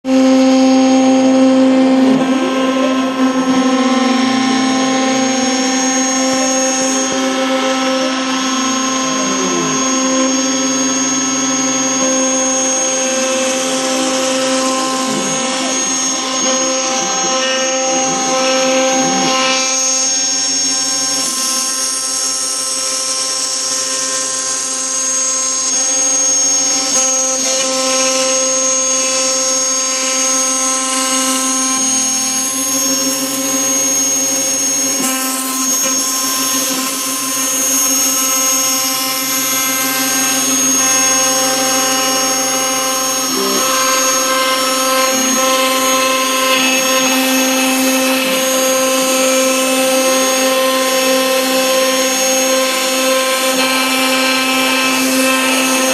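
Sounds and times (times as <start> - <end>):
router spindle high whine: 0.0 - 55.9
hiss of cutting: 5.8 - 55.9.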